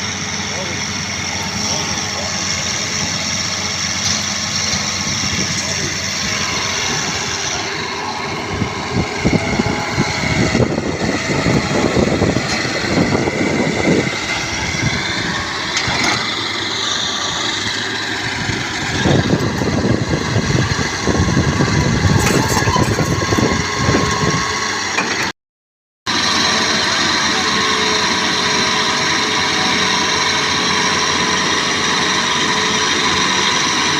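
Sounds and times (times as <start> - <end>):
heavy diesel engines rumbling: 0.0 - 25.3, 26.1 - 33.9.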